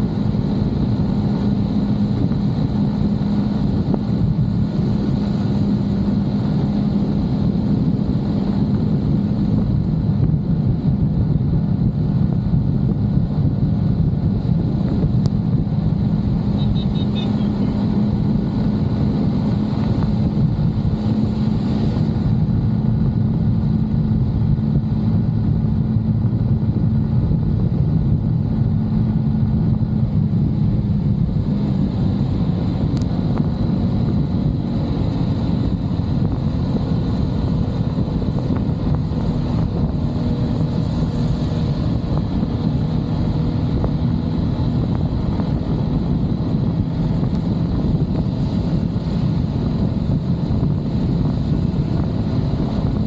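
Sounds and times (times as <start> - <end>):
road and wind noise: 0.0 - 53.0
vehicle engine hum: 0.0 - 53.0.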